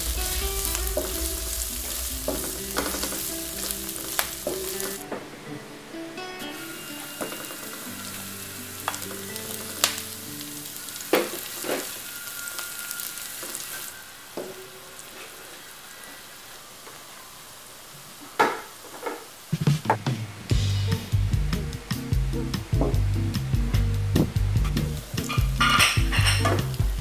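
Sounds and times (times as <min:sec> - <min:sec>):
food sizzling in a pan: 0:00.0 - 0:05.2, 0:06.2 - 0:19.8, 0:20.5 - 0:27.0.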